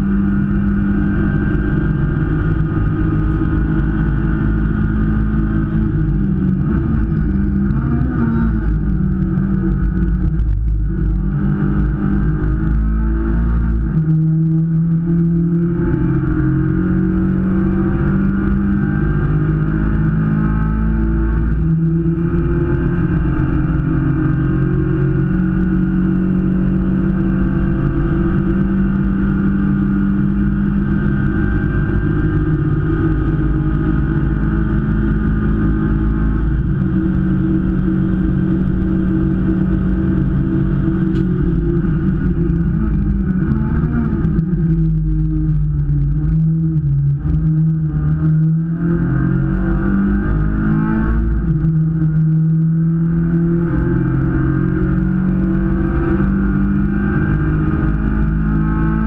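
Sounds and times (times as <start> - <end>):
race car engine at high revs: 0.0 - 59.0
road noise: 0.0 - 59.0.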